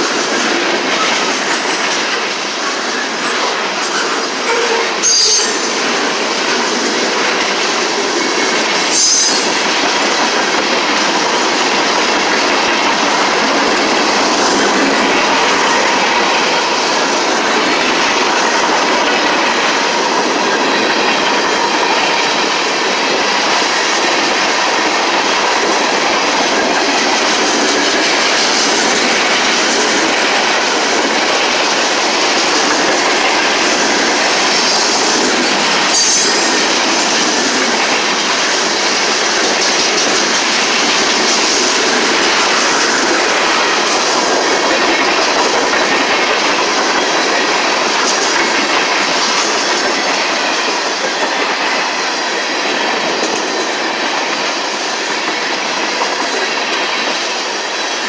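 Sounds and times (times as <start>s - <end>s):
train wheels rushing on rails: 0.0s - 58.0s.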